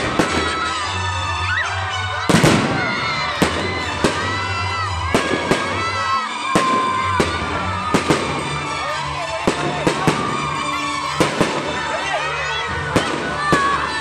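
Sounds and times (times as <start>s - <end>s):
fireworks bursting: 0.0s - 1.2s, 2.2s - 14.0s
loud background music: 0.0s - 14.0s.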